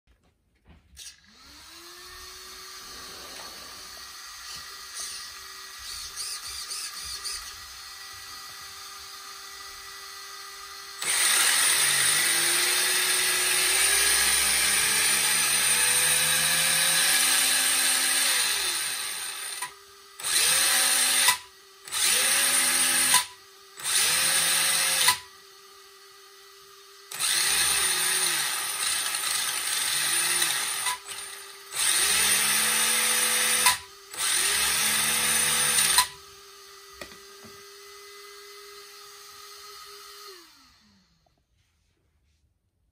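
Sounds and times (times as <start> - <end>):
electric motor whining: 1.0 - 41.2.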